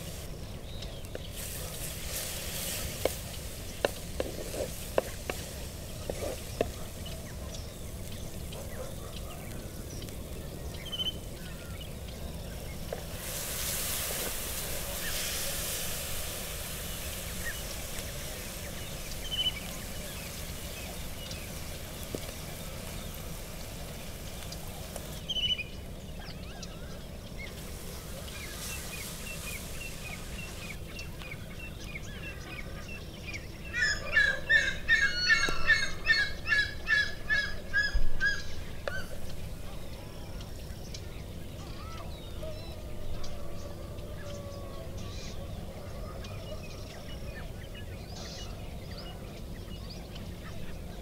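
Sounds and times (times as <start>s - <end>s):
birds chirping: 0.0s - 51.0s
outdoor background hiss: 0.0s - 51.0s
rapid repeated bird calls: 0.0s - 51.0s.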